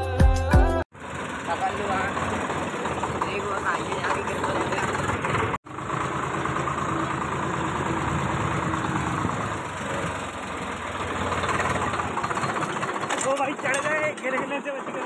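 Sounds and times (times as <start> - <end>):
diesel tractor engine running: 0.8 - 15.0.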